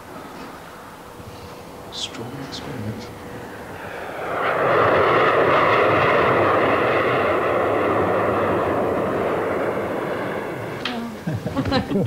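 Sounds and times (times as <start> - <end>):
jet passing overhead: 0.0 - 12.0.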